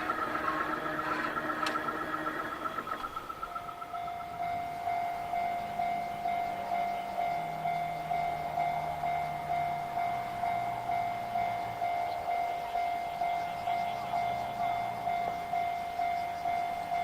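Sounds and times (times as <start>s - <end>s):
level-crossing alarm bell ringing: 0.0s - 17.0s.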